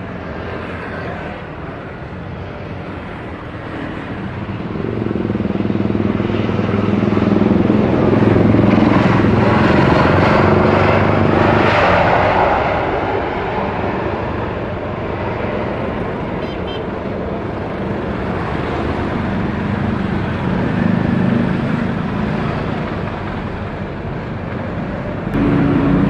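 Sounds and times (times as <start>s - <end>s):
jet rushing noise: 0.0s - 15.2s, 17.5s - 26.0s
jet engines humming: 0.0s - 26.0s.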